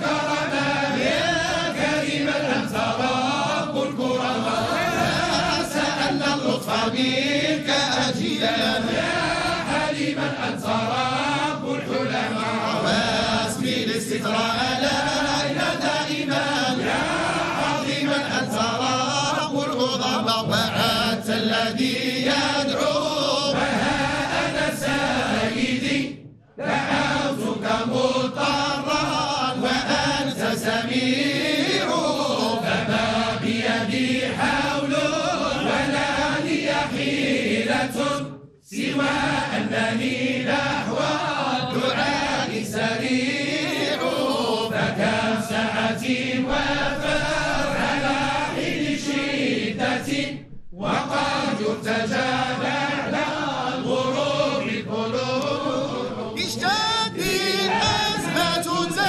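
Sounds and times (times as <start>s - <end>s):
group chanting melodically: 0.0s - 59.0s.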